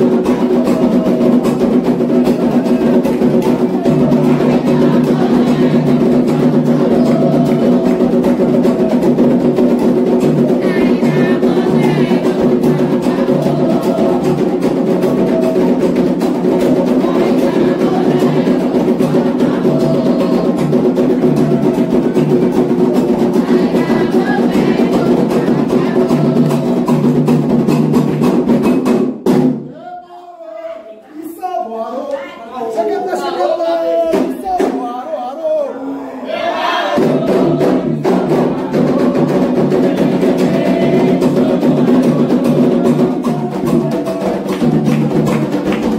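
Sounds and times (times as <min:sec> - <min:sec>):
hand drums playing rhythm: 0:00.0 - 0:29.6, 0:33.9 - 0:35.0, 0:36.5 - 0:45.9.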